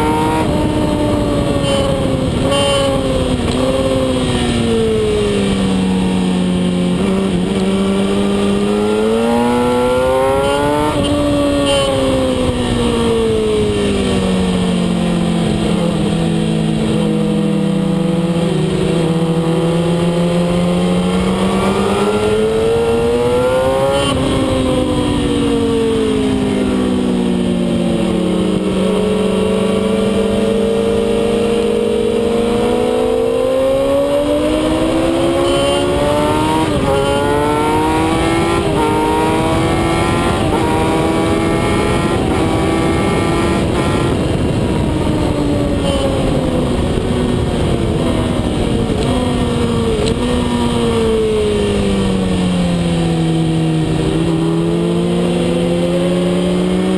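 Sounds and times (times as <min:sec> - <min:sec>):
motorcycle engine at speed: 0:00.0 - 0:56.9
rushing wind: 0:00.0 - 0:56.9.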